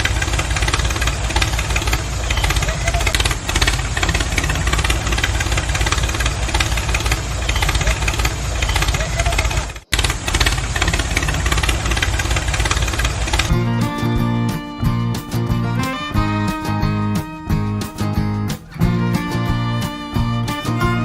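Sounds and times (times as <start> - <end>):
construction vehicle engine clattering: 0.0 - 21.0.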